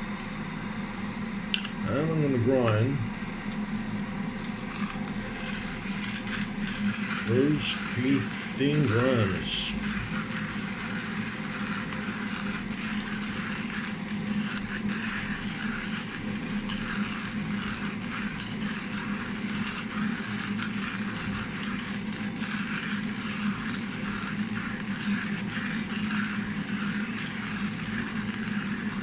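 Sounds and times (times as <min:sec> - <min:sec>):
manual coffee grinder grinding: 0:03.5 - 0:29.0.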